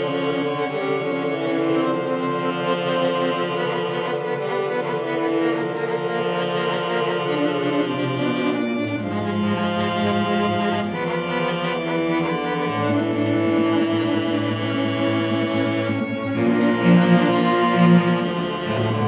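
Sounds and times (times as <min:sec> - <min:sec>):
string quartet playing: 0:00.0 - 0:19.0.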